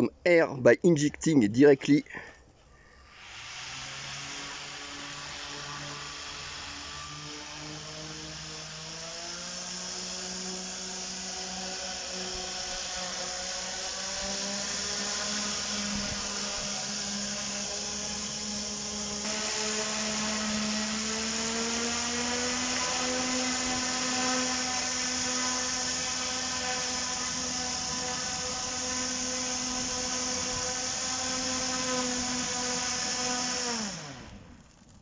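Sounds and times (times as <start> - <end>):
electric blower whining: 3.0 - 34.8.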